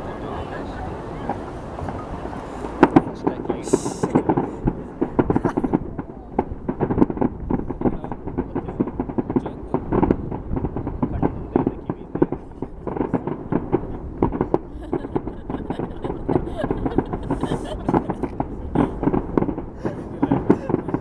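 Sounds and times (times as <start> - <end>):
fireworks and firecrackers popping: 0.0 - 21.0.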